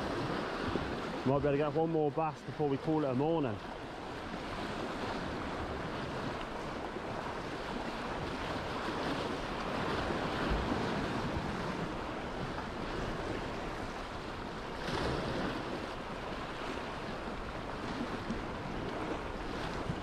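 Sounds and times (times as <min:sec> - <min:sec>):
wind on microphone: 0:00.0 - 0:01.4, 0:03.4 - 0:20.0
sea waves breaking on rocks: 0:00.0 - 0:20.0.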